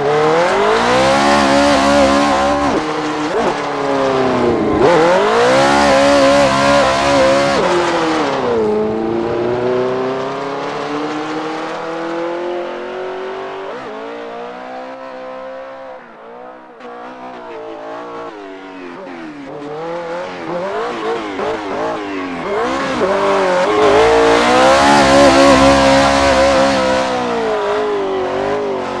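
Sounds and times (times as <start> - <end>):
tyres squealing: 0.0 - 10.9, 15.6 - 29.0
car engine revving: 0.0 - 29.0.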